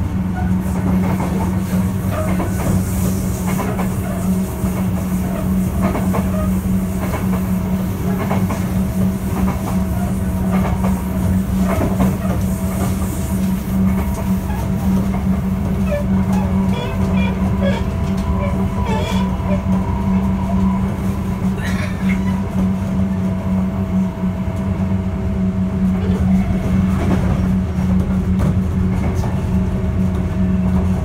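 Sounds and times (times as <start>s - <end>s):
electric train low hum: 0.0s - 31.0s.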